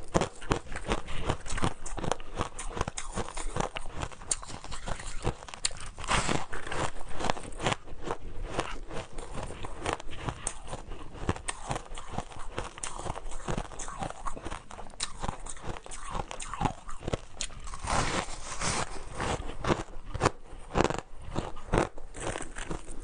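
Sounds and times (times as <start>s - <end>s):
person chewing crunchy ice: 0.0s - 23.0s.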